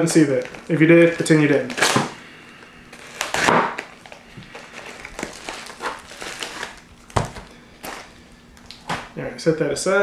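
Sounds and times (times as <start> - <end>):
packaging rustling and crinkling: 0.0 - 9.2.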